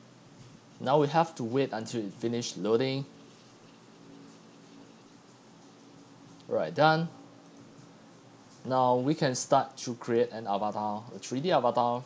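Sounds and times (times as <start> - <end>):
faint hum: 0.0 - 12.0
low hiss: 0.0 - 12.0.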